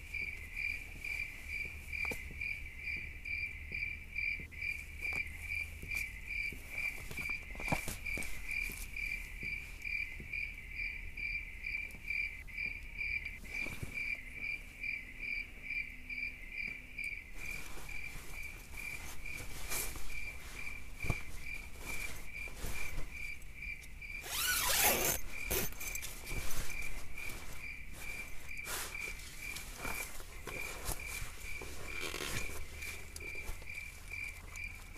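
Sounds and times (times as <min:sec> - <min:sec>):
cricket chirping: 0:00.0 - 0:34.9.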